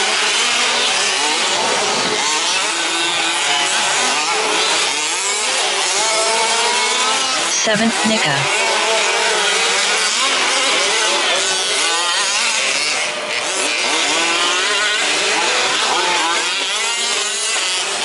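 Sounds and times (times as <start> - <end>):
rc truck engines buzzing and revving: 0.0 - 18.0.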